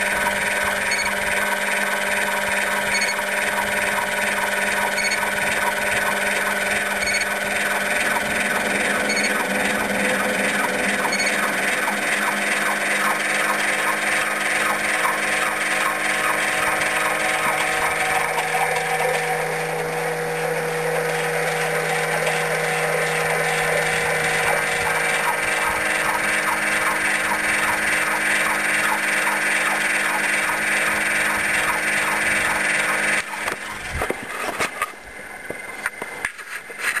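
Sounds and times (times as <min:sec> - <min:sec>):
engine droning: 0:00.0 - 0:37.0.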